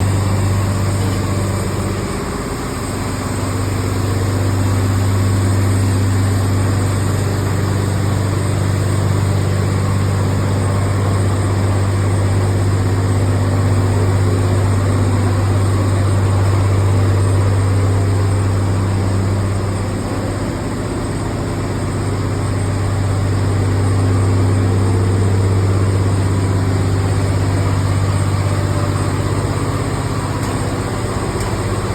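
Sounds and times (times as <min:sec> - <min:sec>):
large engine droning: 0:00.0 - 0:31.9.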